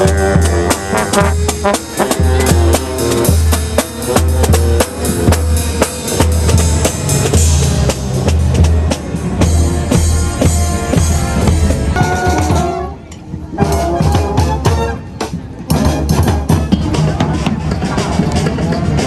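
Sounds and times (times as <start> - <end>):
brass band playing: 0.0 - 18.1
snare and bass drums: 0.0 - 19.0.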